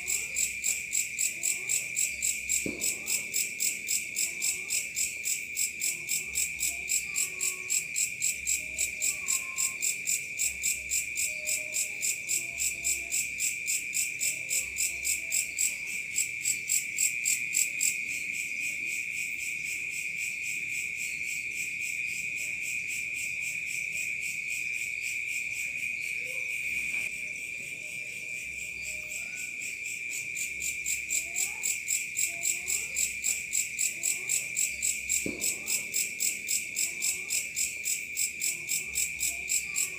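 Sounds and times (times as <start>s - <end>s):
insects trilling: 0.0s - 39.9s
pulsing cricket chirps: 3.3s - 39.9s.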